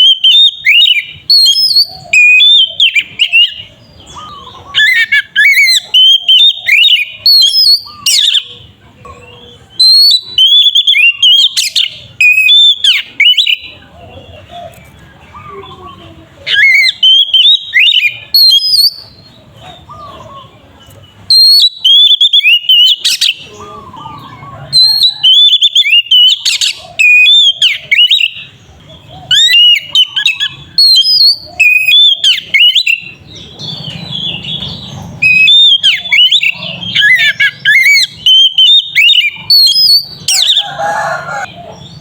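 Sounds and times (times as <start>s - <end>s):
bird singing whistled notes: 0.0s - 8.7s, 9.4s - 14.3s, 16.5s - 20.5s, 21.2s - 41.1s.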